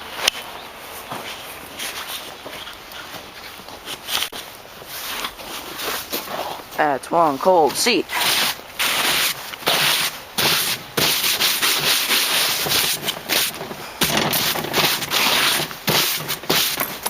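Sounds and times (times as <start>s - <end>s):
rough rubbing and scraping: 1.2s - 17.0s.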